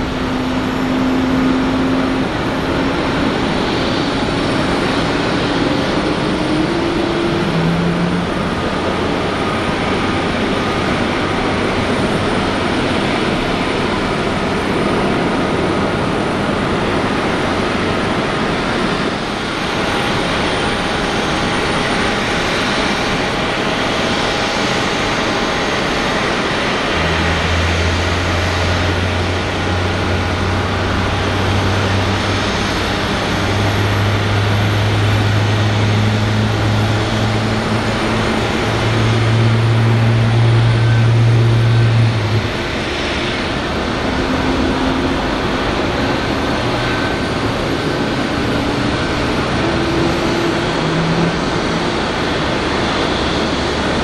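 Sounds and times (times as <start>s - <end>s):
jet engine rushing: 0.0s - 54.0s
low hum: 0.0s - 54.0s.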